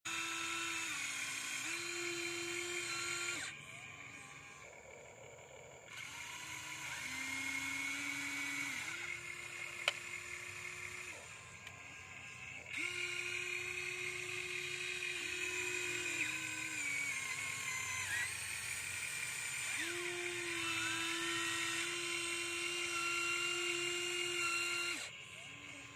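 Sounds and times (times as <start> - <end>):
small electric motors whining: 0.0 - 25.9.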